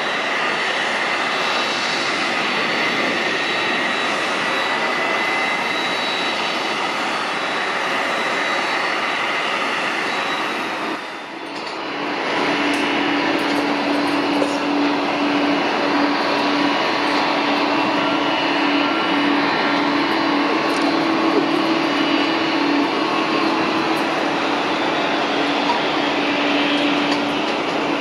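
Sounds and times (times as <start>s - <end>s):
jet engine noise: 0.0s - 28.0s.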